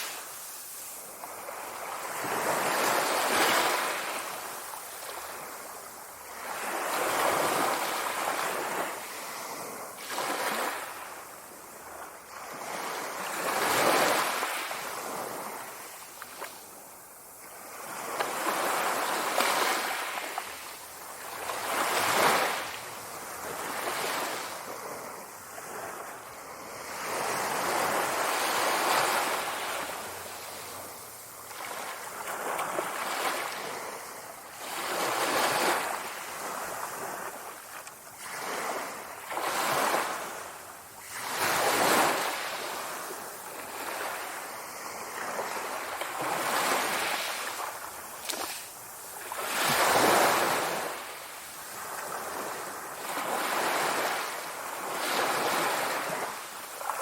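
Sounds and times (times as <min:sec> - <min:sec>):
sea waves washing in: 0:00.0 - 0:57.0.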